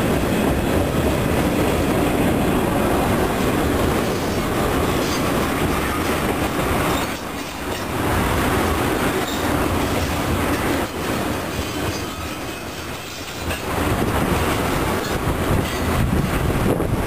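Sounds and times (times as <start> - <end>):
clickety-clack over rail joints: 0.0 - 17.0
train wheels rumbling on rails: 0.0 - 17.0.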